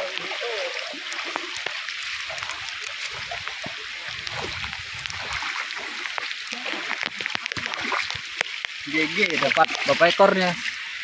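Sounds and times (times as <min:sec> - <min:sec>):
heavy rain hiss: 0:00.0 - 0:10.7
running stream: 0:00.0 - 0:11.0.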